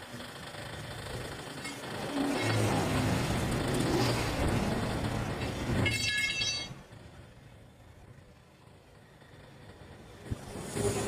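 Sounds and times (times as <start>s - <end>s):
road vehicle rumbling hiss: 0.0s - 5.9s, 6.9s - 11.0s.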